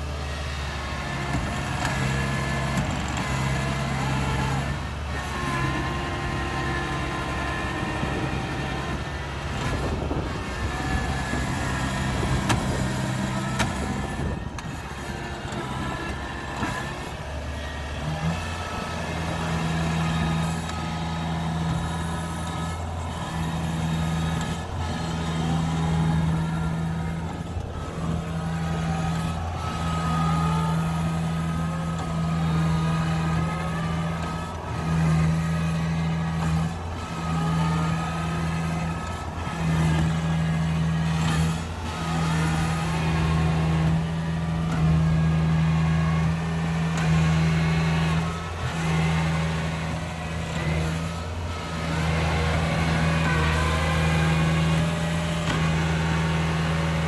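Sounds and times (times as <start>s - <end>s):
combine harvester diesel engine: 0.0s - 57.0s.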